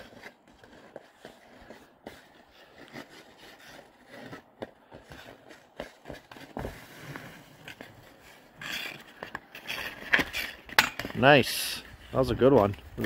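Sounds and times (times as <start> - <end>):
ice skates scraping on ice: 0.0 - 13.0.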